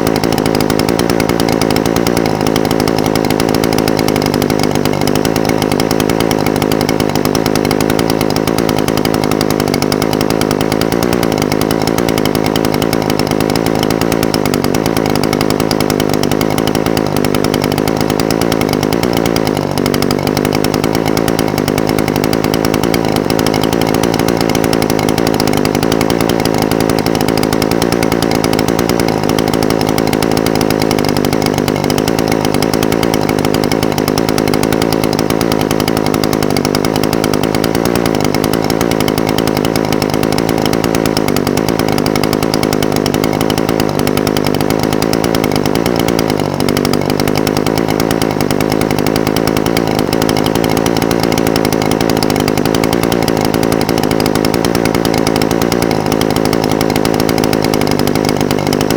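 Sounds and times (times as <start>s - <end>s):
brush cutter engine idling: 0.0s - 58.9s.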